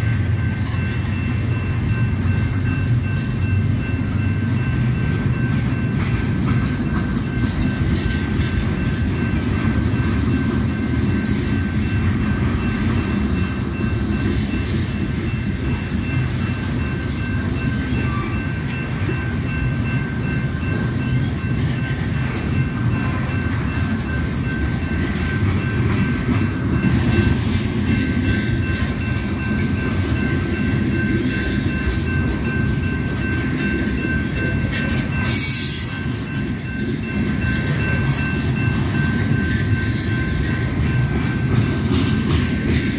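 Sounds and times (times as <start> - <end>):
crossing bell ringing: 0.0 - 42.9
train wheels rumbling on rail: 0.0 - 42.9.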